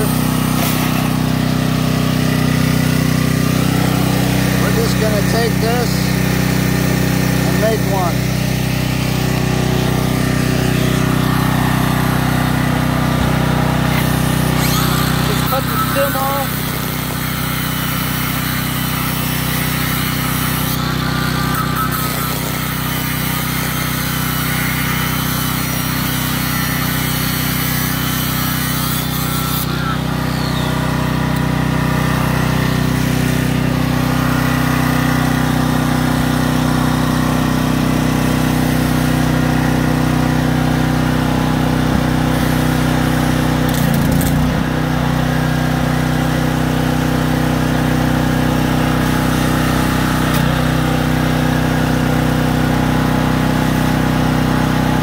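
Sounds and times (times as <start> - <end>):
angle grinder cutting steel: 0.0 - 55.0
generator engine droning: 0.0 - 55.0.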